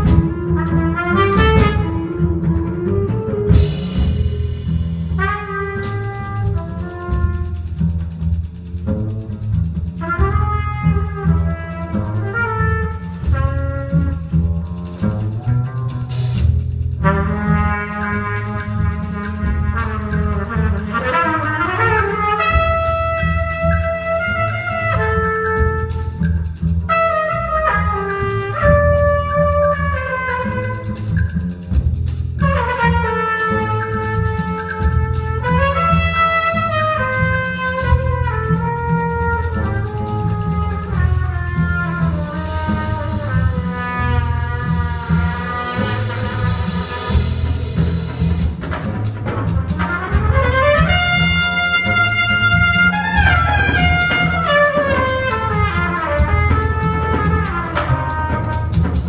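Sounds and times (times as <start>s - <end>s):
trumpet playing: 0.0s - 4.3s, 5.2s - 7.8s, 10.0s - 16.4s, 17.0s - 31.2s, 32.4s - 59.0s
double bass: 0.0s - 59.0s
light drum kit: 0.0s - 59.0s.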